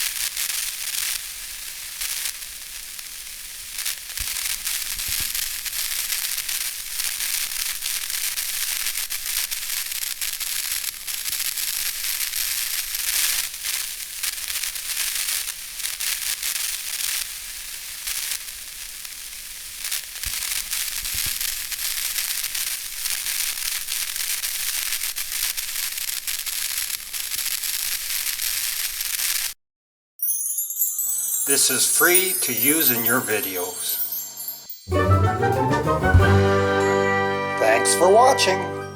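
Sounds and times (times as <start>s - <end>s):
crackling static hiss: 0.0s - 29.6s, 31.1s - 34.7s.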